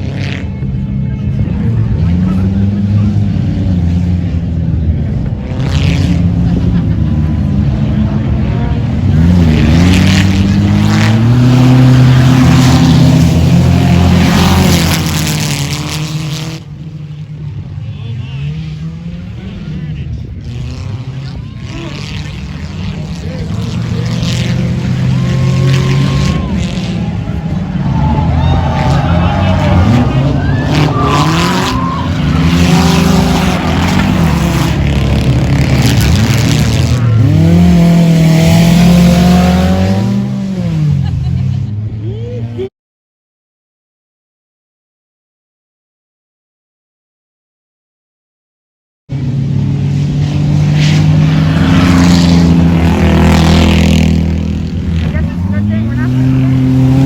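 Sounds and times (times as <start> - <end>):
race car engine running: 0.0 - 42.0, 49.1 - 57.0.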